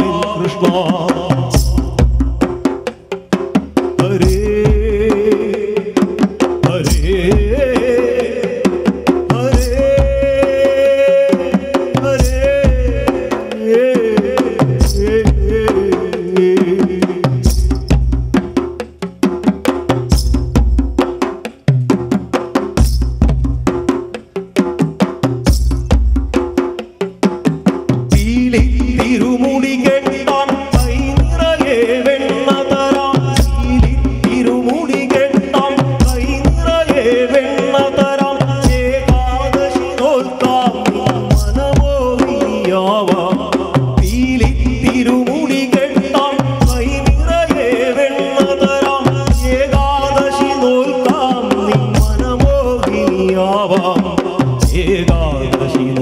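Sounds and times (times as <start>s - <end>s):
man singing: 0.0s - 18.6s, 27.9s - 56.0s
hand drums playing: 0.0s - 56.0s.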